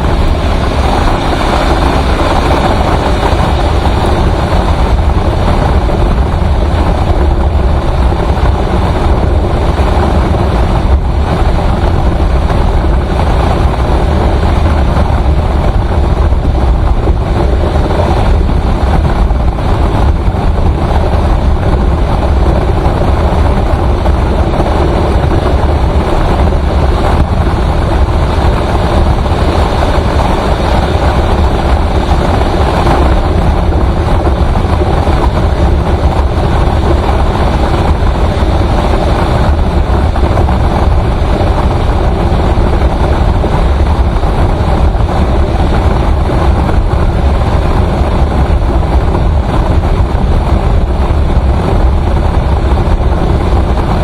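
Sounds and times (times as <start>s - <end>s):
vehicle driving on highway: 0.0s - 54.0s.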